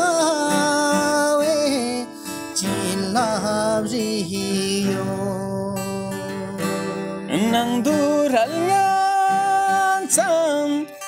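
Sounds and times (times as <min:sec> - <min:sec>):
acoustic guitar chords: 0:00.0 - 0:11.0
man singing folk song: 0:00.0 - 0:11.0.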